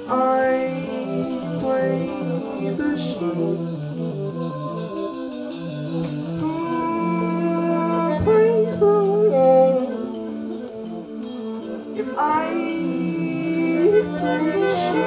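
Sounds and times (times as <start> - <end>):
big band music: 0.0 - 15.0
guitar: 0.0 - 15.0
person singing: 0.0 - 15.0.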